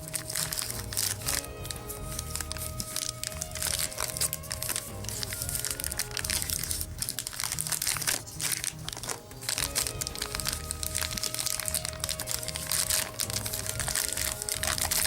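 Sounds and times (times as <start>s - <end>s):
background music: 0.0s - 15.0s
wrapper crinkling: 0.0s - 15.0s.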